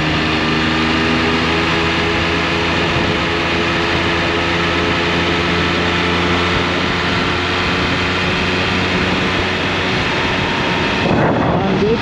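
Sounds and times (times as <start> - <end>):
motorcycle engine cruising: 0.0 - 12.0
wind noise: 0.0 - 12.0.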